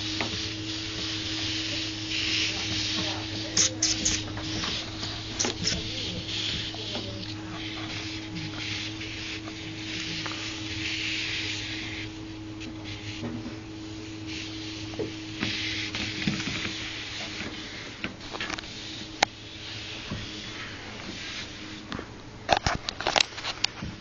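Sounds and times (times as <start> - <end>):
treadmill belt hiss: 0.0 - 24.0
treadmill motor hum: 0.0 - 24.0.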